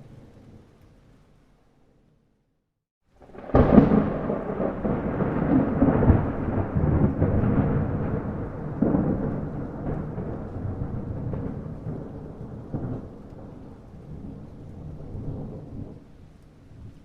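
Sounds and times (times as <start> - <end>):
heavy rain: 3.1 - 17.0
thunder rumbling: 3.2 - 17.0.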